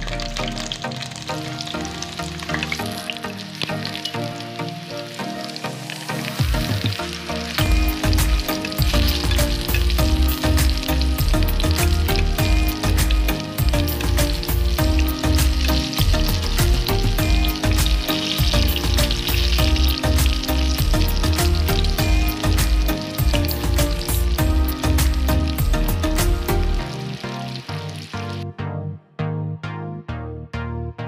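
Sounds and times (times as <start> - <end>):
eggplant frying in oil: 0.0 - 28.4
background music with beat: 0.0 - 31.0.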